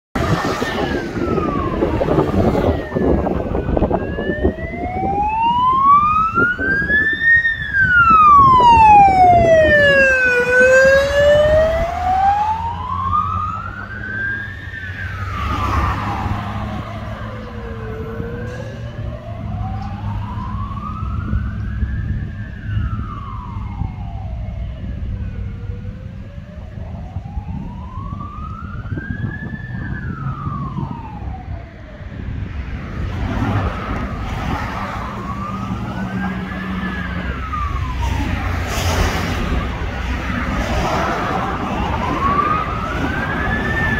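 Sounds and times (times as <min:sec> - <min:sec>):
ambulance siren wailing: 0:00.2 - 0:43.9
road traffic noise: 0:00.2 - 0:43.9.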